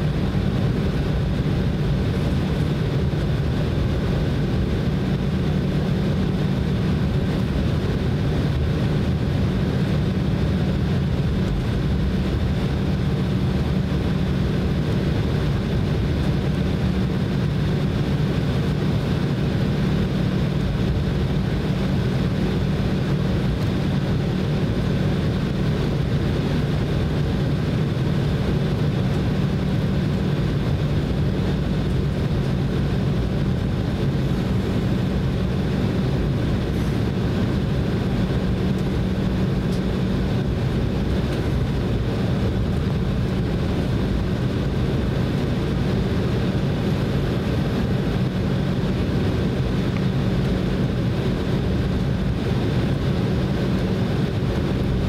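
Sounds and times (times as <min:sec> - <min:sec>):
airliner cabin engine hum: 0:00.0 - 0:55.0
high engine whine: 0:00.0 - 0:55.0.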